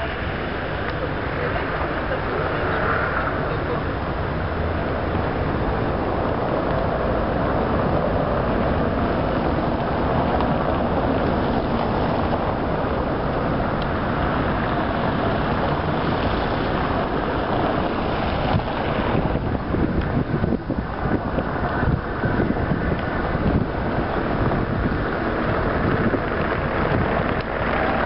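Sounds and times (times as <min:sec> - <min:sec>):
city street traffic: 0:00.0 - 0:28.0
wind on microphone: 0:00.0 - 0:28.0.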